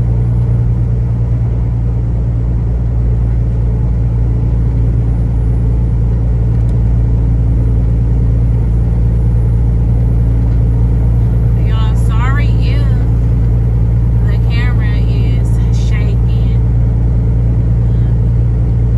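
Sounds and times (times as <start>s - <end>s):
diesel truck engine drone: 0.0s - 18.9s
road noise: 0.0s - 18.9s.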